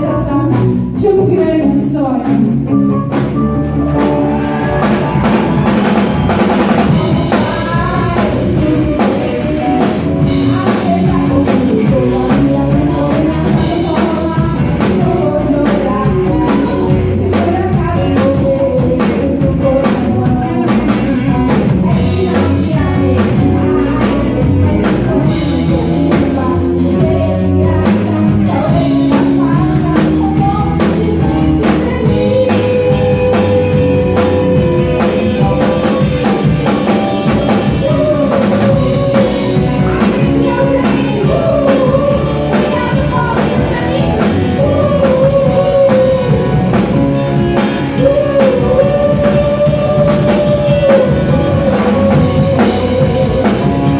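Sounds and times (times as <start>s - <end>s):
drum kit: 0.0s - 53.9s
guitar: 0.0s - 53.9s
person singing: 0.0s - 53.9s.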